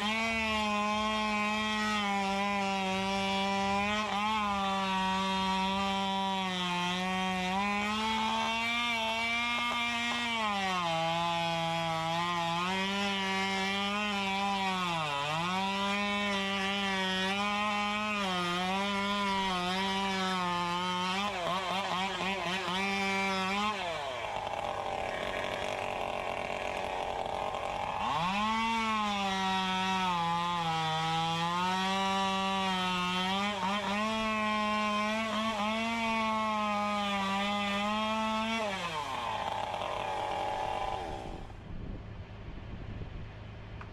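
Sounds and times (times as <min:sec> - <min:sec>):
chainsaw running at high revs: 0:00.0 - 0:41.6.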